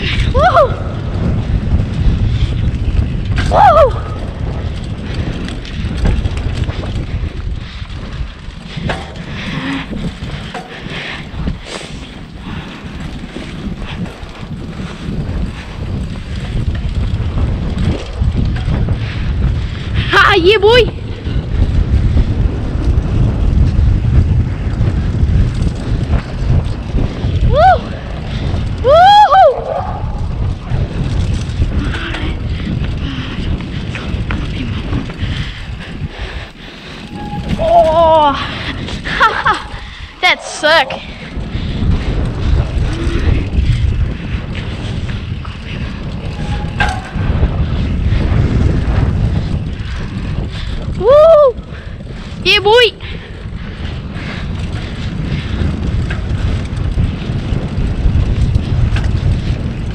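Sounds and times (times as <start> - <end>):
bike rumbling on dirt trail: 0.0 - 59.9
wind buffeting microphone: 0.0 - 59.9.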